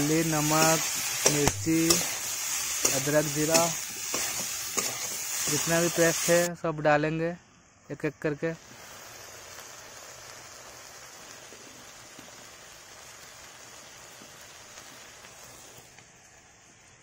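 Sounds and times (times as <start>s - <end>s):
vegetables sizzling in a wok: 0.0s - 6.6s, 8.4s - 17.0s.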